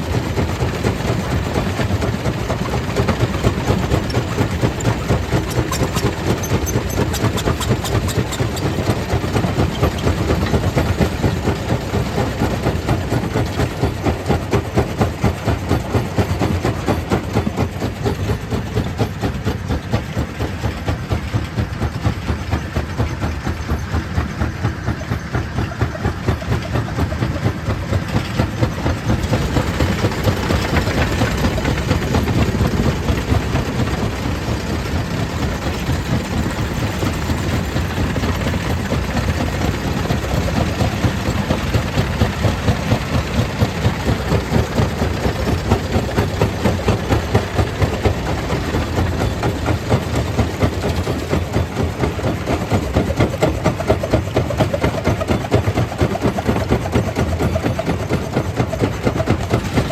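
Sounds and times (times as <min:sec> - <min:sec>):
stone crusher machinery running: 0:00.0 - 0:59.9.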